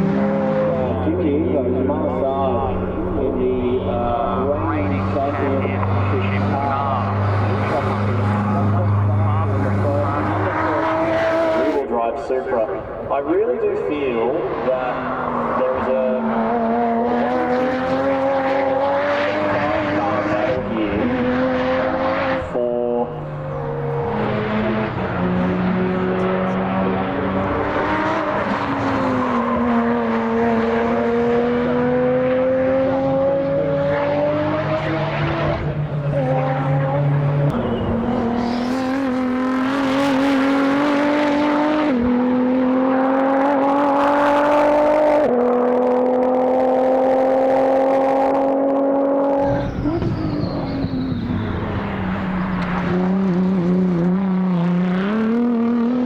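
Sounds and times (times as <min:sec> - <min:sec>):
race car engine revving: 0:00.0 - 0:56.0
second race car engine: 0:00.0 - 0:56.0.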